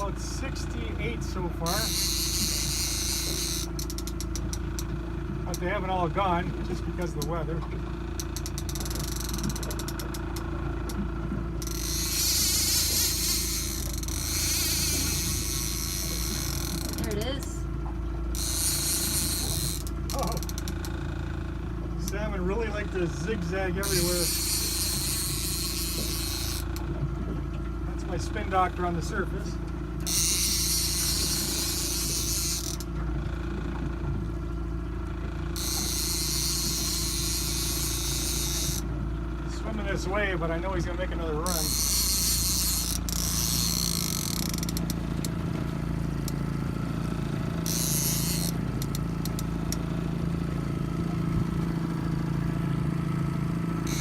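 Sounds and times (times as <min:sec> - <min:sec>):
fishing reel drag clicking and buzzing: 0:00.0 - 0:06.0, 0:07.0 - 0:07.4, 0:08.1 - 0:17.6, 0:18.3 - 0:21.4, 0:22.0 - 0:26.9, 0:28.1 - 0:33.7, 0:35.5 - 0:38.9, 0:39.8 - 0:51.3, 0:53.0 - 0:54.0
boat engine humming: 0:00.0 - 0:54.0.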